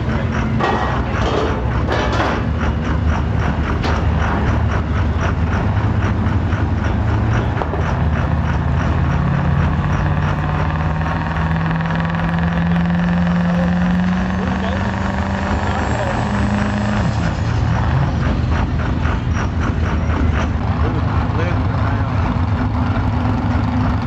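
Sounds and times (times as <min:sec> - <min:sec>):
diesel engines running: 0:00.0 - 0:24.0.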